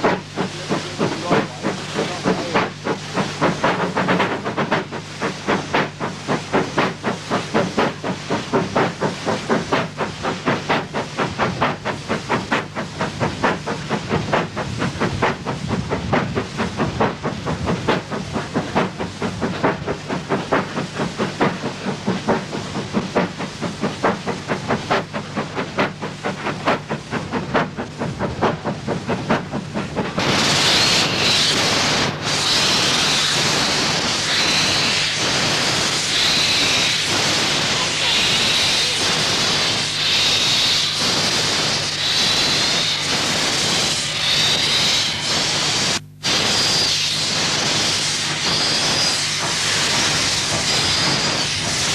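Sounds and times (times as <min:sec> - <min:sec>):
loud steam hiss with high tone: 0:00.0 - 0:51.9
steam locomotive chuffing: 0:00.0 - 0:51.9.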